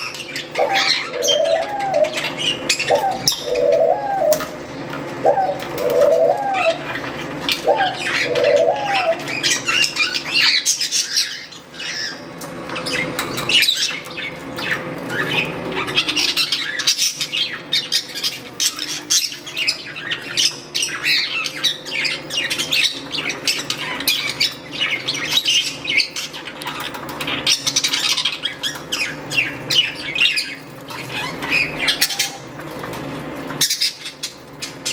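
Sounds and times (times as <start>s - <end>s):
budgerigars chirping and squawking: 0.0s - 34.9s.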